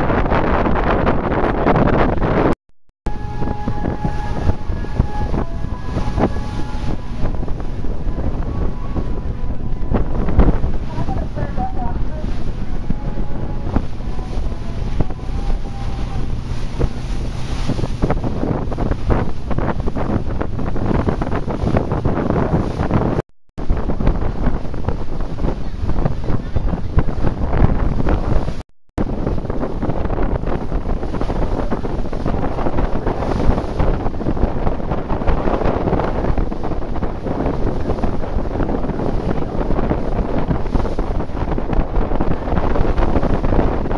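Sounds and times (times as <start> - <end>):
boat and water rumble: 0.0 - 43.9
wind buffeting microphone: 0.0 - 43.9.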